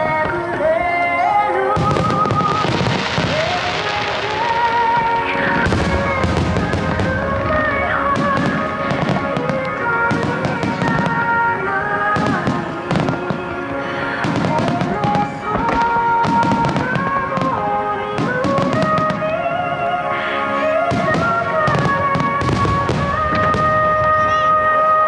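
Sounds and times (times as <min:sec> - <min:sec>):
fireworks bursting: 0:00.0 - 0:25.0
melodic music: 0:00.0 - 0:25.0.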